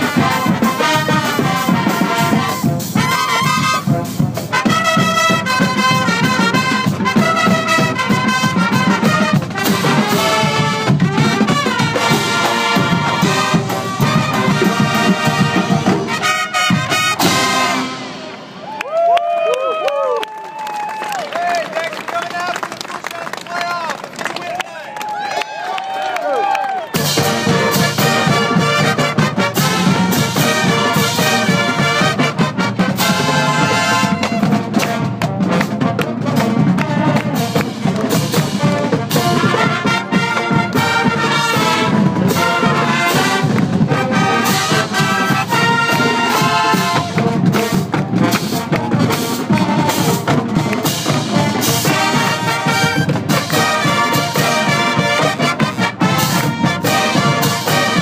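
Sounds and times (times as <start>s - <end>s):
brass band playing: 0.0s - 18.8s, 26.9s - 58.0s.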